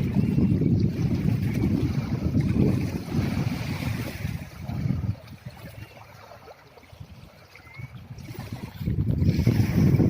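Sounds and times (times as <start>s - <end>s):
strong wind buffeting microphone: 0.0s - 6.2s, 6.9s - 10.0s.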